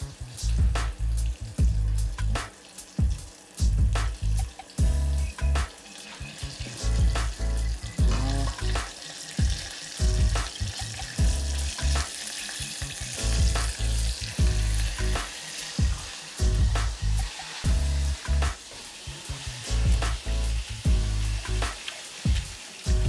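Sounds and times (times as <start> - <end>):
deep-frying sizzle: 0.0 - 23.0.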